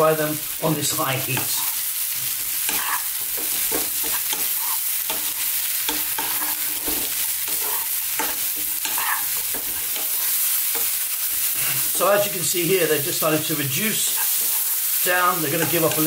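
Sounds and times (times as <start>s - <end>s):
vegetables sizzling in hot oil: 0.0s - 16.0s
wooden spatula scraping a wok: 1.3s - 12.3s, 13.6s - 16.0s.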